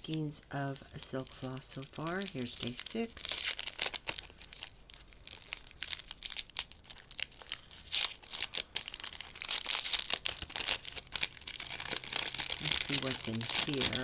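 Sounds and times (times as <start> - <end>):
gift wrapping crinkling and tearing: 0.0 - 14.0.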